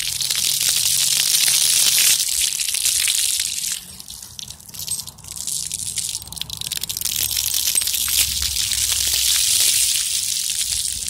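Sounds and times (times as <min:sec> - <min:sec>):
fountain jets splashing on concrete: 0:00.0 - 0:11.0.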